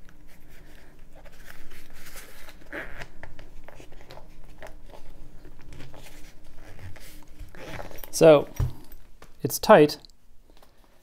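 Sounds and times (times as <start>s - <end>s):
fabric bag rustling and scraping: 0.2s - 9.0s.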